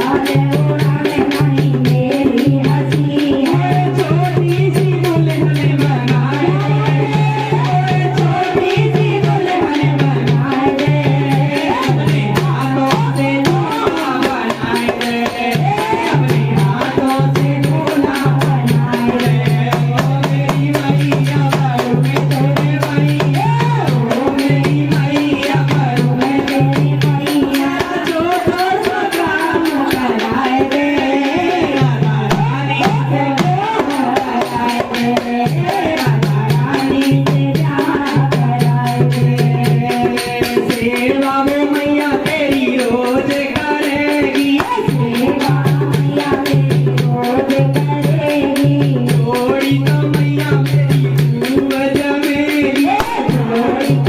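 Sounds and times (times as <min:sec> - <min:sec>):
hand drum playing: 0:00.0 - 0:54.0
jingling percussion: 0:00.0 - 0:54.0.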